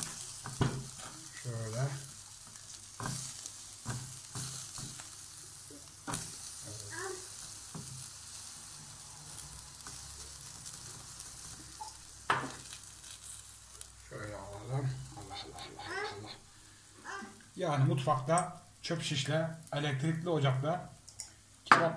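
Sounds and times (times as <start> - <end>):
meat sizzling on a grill: 0.0 - 21.9.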